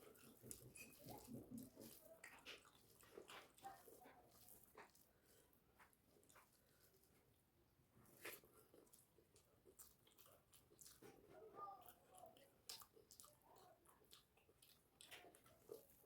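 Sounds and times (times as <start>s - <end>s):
person chewing food: 0.0s - 7.4s, 8.1s - 16.0s.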